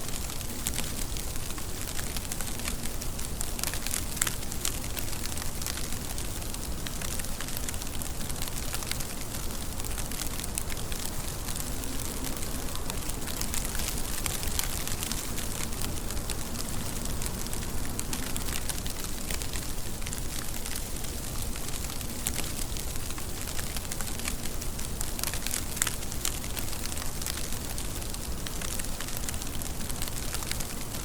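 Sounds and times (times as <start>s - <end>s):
raindrops ticking on a surface: 0.0s - 31.0s
steady rain falling: 0.0s - 31.0s.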